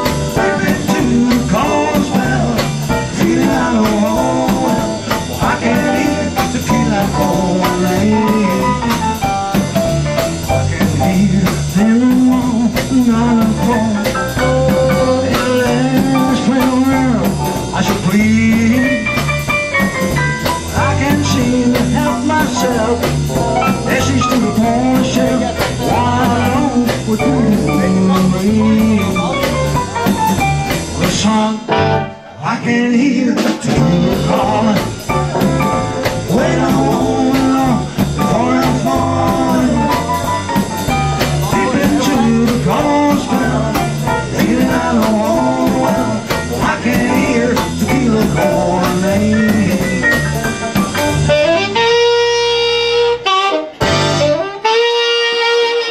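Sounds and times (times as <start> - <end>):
man singing: 0.0 - 19.5, 20.6 - 30.2, 30.8 - 50.9
live blues rock band: 0.0 - 55.9.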